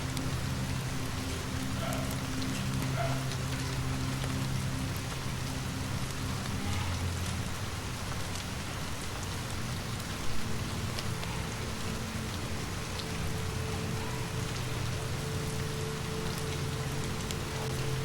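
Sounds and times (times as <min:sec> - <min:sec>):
fireplace crackling: 0:00.0 - 0:18.0
steady rain falling: 0:00.0 - 0:18.0.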